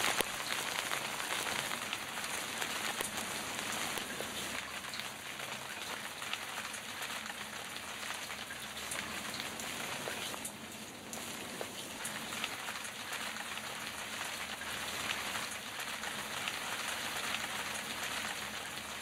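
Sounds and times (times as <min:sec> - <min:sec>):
rain pattering on a surface: 0:00.0 - 0:19.0.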